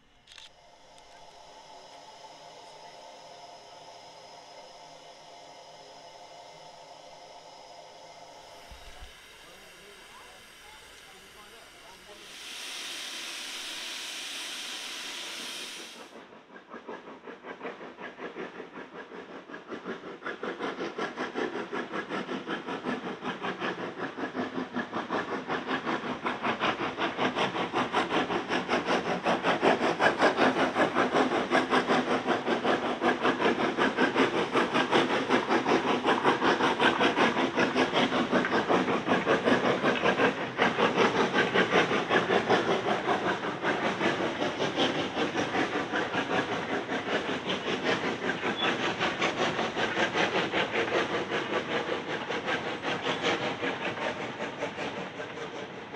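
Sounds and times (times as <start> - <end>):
steam hissing: 0.0 - 55.9
steam locomotive chuffing: 0.0 - 55.9.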